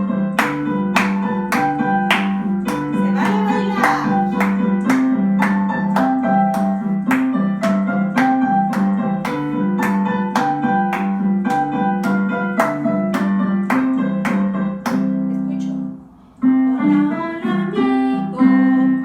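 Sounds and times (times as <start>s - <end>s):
keyboard playing chords and melody: 0.0s - 19.0s.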